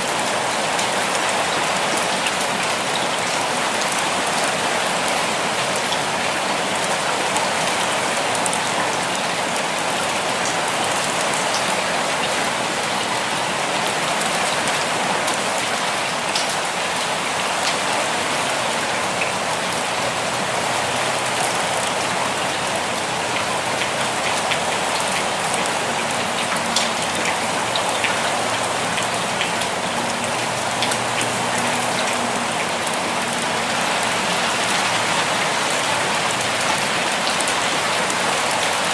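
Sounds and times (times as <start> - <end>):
individual raindrops: 0.0 - 38.9
steady rainfall hiss: 0.0 - 38.9.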